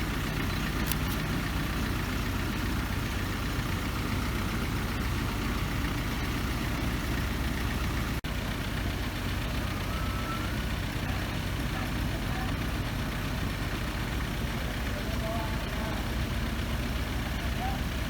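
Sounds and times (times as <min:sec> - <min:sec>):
train engine idling: 0:00.0 - 0:18.0.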